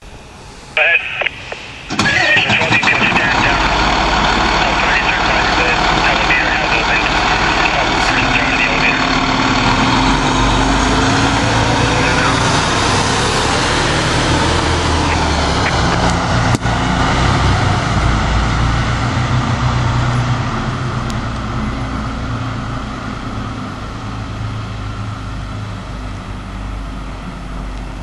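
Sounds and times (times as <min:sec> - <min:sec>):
diesel truck engine driving off: 0:00.8 - 0:28.0.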